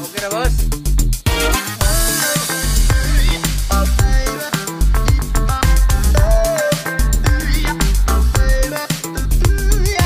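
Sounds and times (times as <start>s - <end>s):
dance music with heavy bass: 1.2s - 10.0s.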